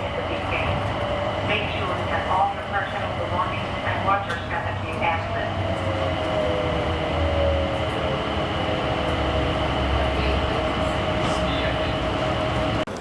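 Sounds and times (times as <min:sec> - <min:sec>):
train rumble with motor whine: 0:00.0 - 0:13.0.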